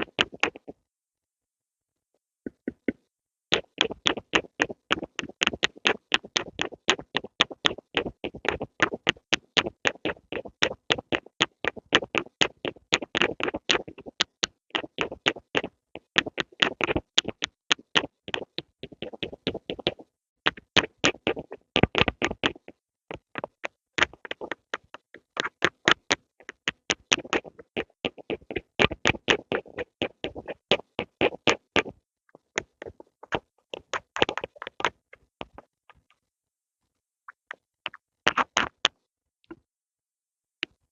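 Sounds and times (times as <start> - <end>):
pencil tapping and scratching: 0.0 - 0.8, 2.4 - 36.2, 37.3 - 39.0.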